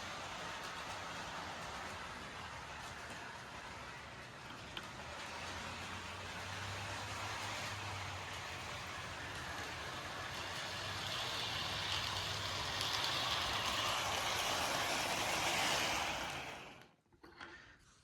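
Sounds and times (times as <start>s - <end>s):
model train rolling on track: 0.0s - 17.7s.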